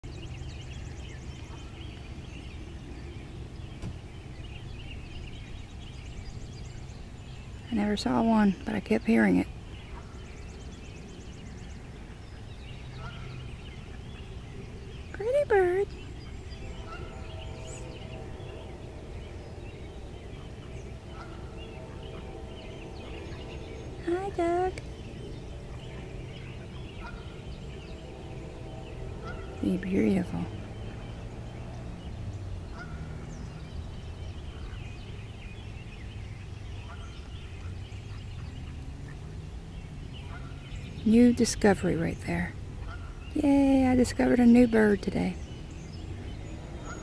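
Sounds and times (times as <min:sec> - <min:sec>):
small birds chirping: 0:00.0 - 0:47.0
wind rumble on microphone: 0:00.0 - 0:47.0.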